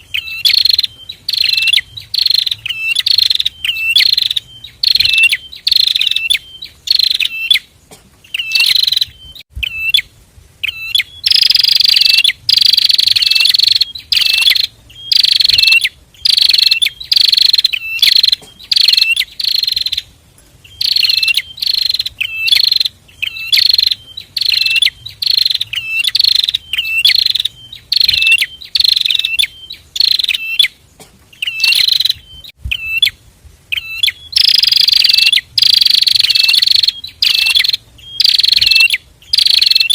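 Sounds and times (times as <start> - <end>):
birds singing high sharp calls: 0.0 - 39.9.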